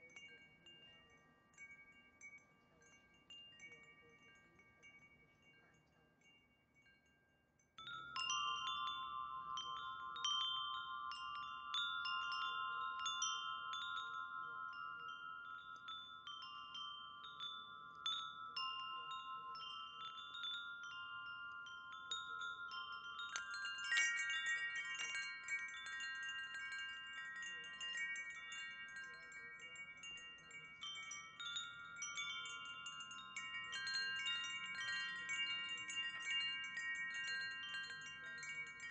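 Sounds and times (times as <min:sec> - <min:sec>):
wind chimes ringing: 0:00.0 - 0:38.9.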